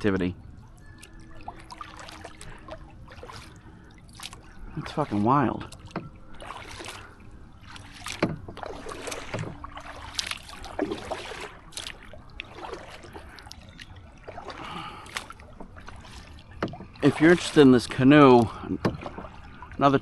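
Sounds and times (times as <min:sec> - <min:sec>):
paddle splashing water: 0:00.5 - 0:20.0.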